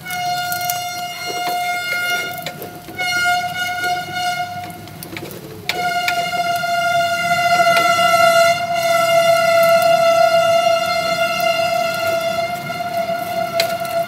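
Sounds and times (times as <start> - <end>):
horn-like tone blasts: 0.0 - 5.0, 5.7 - 14.0.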